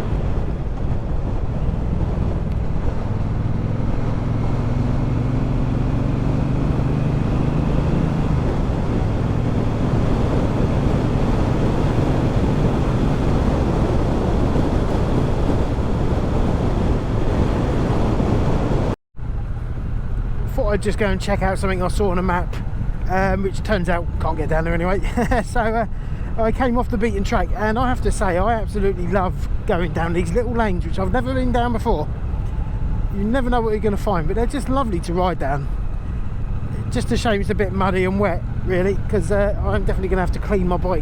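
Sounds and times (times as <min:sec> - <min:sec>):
wind rush on microphone: 0:00.0 - 0:41.0.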